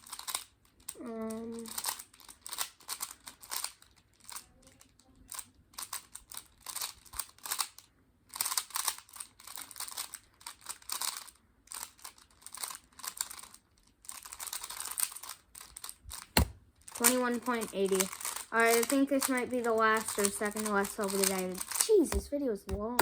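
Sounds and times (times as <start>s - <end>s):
puzzle cube clicking and scraping: 0.0s - 23.0s.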